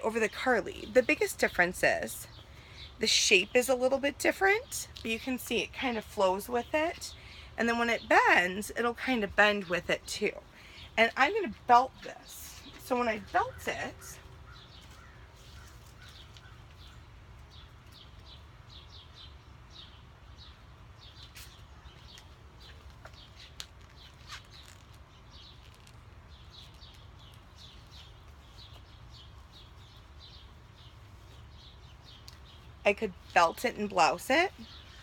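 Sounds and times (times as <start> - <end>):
faint songbirds chirping: 0.0 - 35.0.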